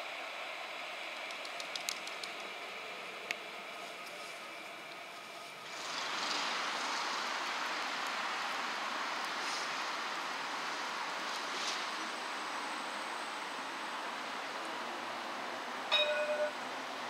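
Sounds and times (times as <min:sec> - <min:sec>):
tram running hiss: 0:00.0 - 0:17.0.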